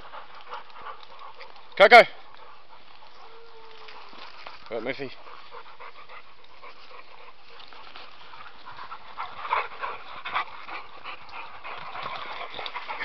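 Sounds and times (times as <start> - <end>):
dog panting: 0.0 - 13.0
footsteps: 0.0 - 13.0.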